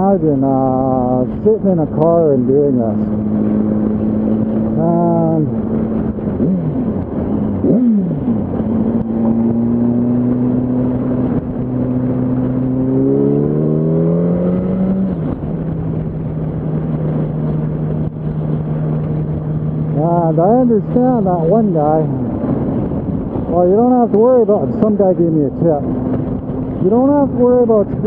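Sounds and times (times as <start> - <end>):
motorcycle engine accelerating: 0.6 - 28.0.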